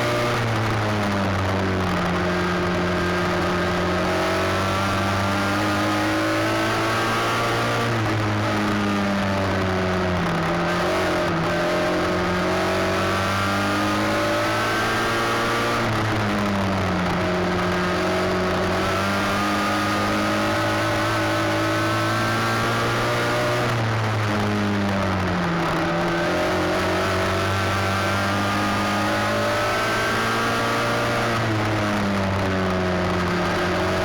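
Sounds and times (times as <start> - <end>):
race car engine: 0.0 - 34.0.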